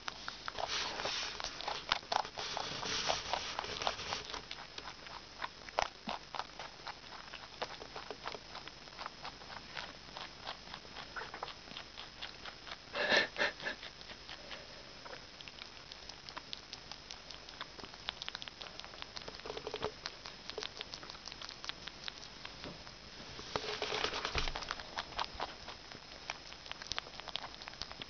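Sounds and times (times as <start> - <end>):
rabbit chewing crunchily: 0.0 - 28.0.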